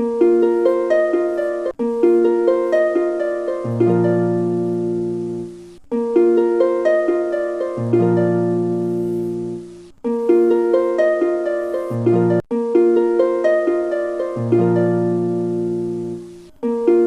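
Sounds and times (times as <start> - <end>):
held low chord: 0.0 - 17.0
plucked-string tune: 0.0 - 17.0.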